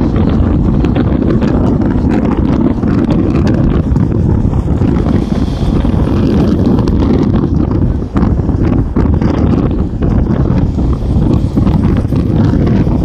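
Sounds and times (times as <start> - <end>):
bus rumble: 0.0 - 13.0
wind buffeting microphone: 0.0 - 13.0.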